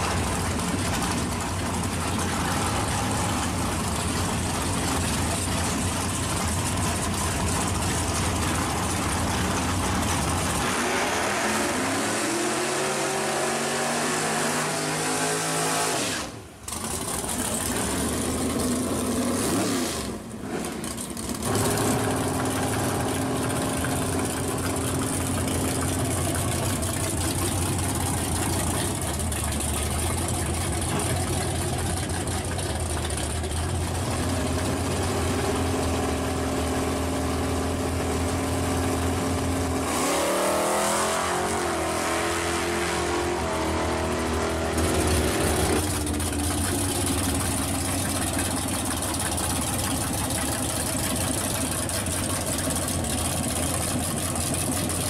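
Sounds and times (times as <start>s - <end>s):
race car engines idling and revving: 0.0s - 55.0s.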